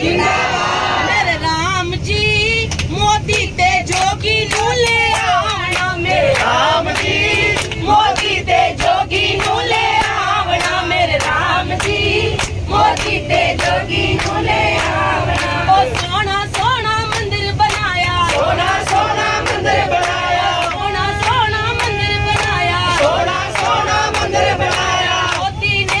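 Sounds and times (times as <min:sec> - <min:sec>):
group singing devotional song: 0:00.0 - 0:01.6, 0:03.1 - 0:26.0.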